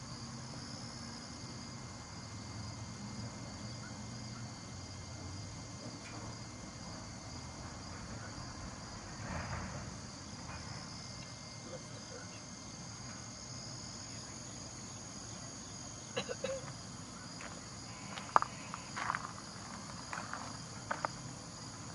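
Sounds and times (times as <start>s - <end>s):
insects chirring: 0.0s - 21.9s
low hum of distant traffic: 0.0s - 21.9s.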